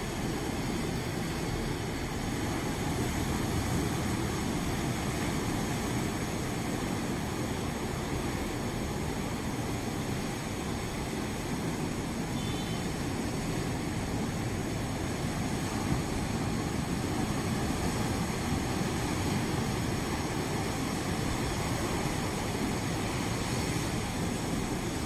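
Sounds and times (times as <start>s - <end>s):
surf breaking over rocks: 0.1s - 25.0s.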